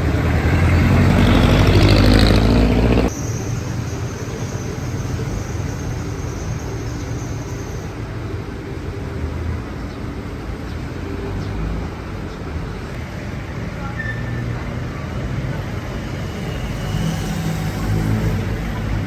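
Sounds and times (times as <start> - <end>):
traffic engines rumbling: 0.0 - 19.0.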